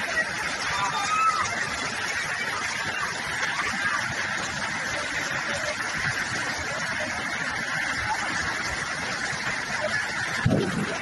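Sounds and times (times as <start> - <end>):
floodwater rushing down steps: 0.0 - 11.0.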